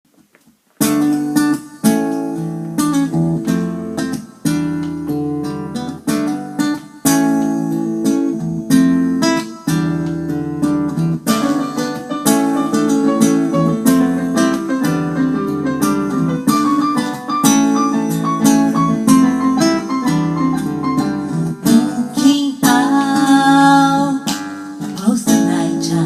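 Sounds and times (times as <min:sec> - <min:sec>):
acoustic guitar strummed chords: 0:00.8 - 0:26.0.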